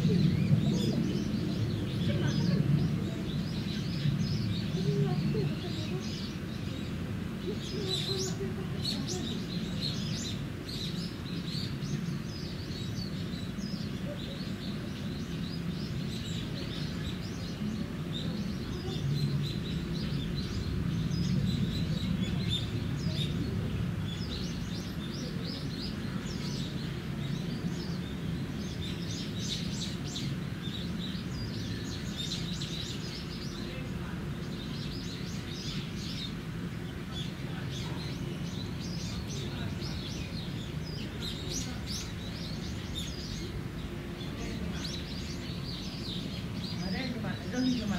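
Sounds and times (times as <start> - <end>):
low outdoor rumble: 0.0 - 47.9
small birds chirping: 0.0 - 47.9.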